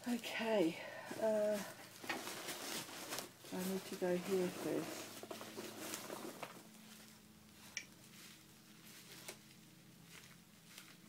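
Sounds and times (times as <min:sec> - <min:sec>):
low steady hum: 0:00.0 - 0:11.0
rustling of wrapped item: 0:00.9 - 0:11.0.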